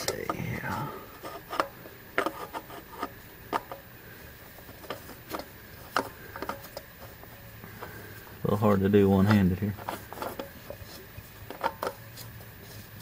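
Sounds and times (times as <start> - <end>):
oil filter clicking and rubbing: 0.0 - 13.0.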